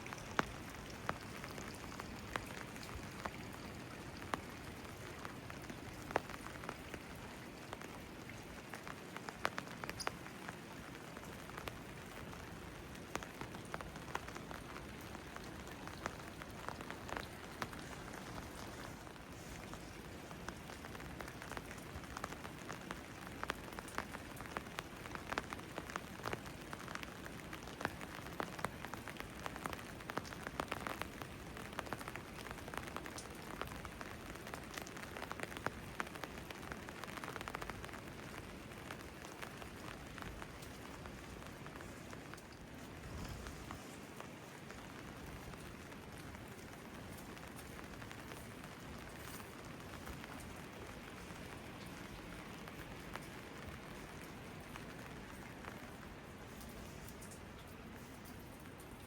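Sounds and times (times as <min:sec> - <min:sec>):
water drops and drips: 0:00.0 - 0:10.6, 0:11.2 - 0:59.0
rain falling: 0:00.0 - 0:59.0.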